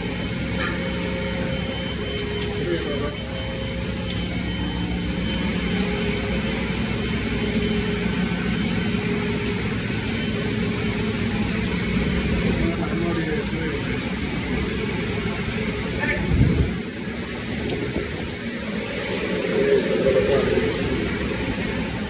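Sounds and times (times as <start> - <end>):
heavy machinery droning: 0.0 - 22.0
heavy rain hissing: 2.8 - 22.0.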